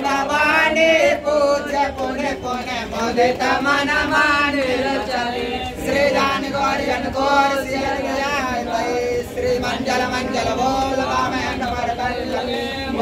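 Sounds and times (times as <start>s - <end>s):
voices singing a chant: 0.0s - 13.0s.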